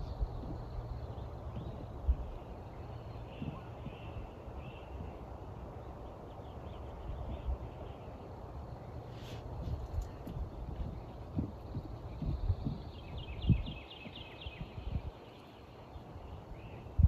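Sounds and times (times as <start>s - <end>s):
low rumbling noise: 0.0s - 17.0s
small birds chirping: 0.0s - 17.0s.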